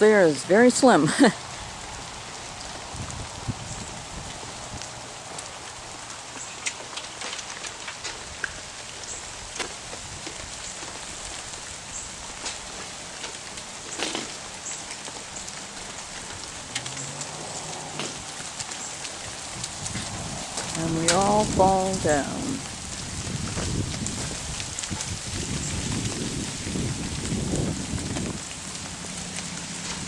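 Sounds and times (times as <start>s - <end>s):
ice pattering from trees: 0.0s - 30.0s.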